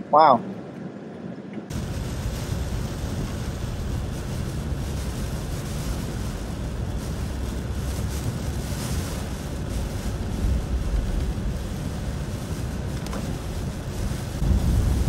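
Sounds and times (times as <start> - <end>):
wind against car: 1.4 - 15.0
tyre spray on wet road: 1.7 - 15.0.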